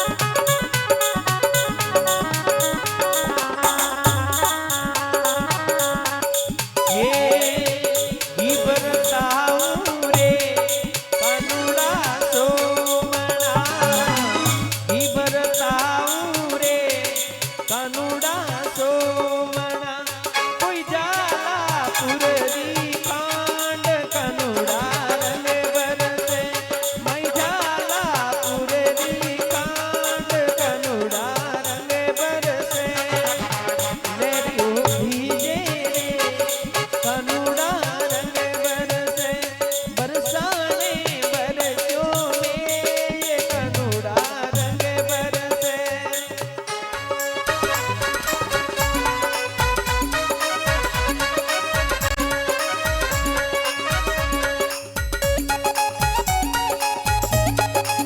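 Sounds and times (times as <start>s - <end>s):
fast even percussion: 0.0s - 58.0s.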